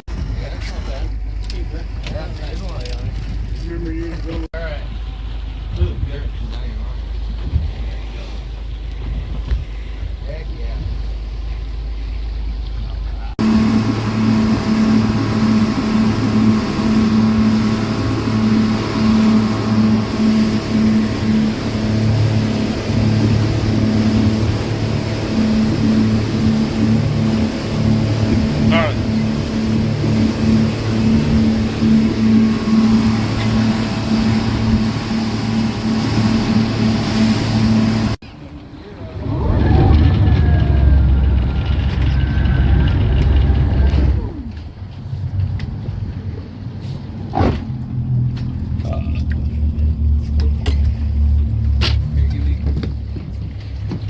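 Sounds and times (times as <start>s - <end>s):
low rumble: 0.0s - 54.0s
outboard motors running: 0.0s - 54.0s
rushing water and wind: 4.4s - 48.8s.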